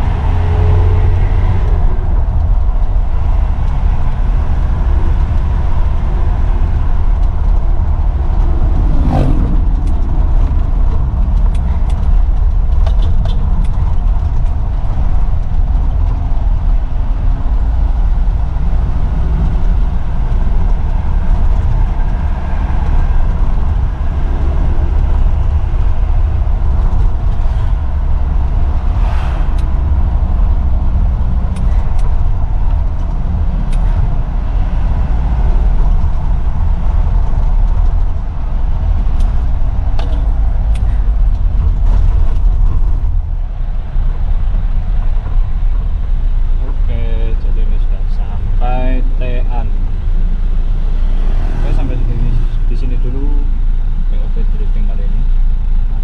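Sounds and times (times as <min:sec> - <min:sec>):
diesel engine drone: 0:00.0 - 0:56.0
road noise: 0:00.0 - 0:56.0.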